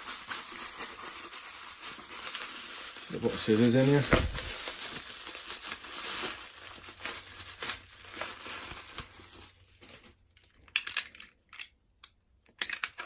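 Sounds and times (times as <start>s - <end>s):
packaging crinkling and tearing: 0.0s - 11.5s.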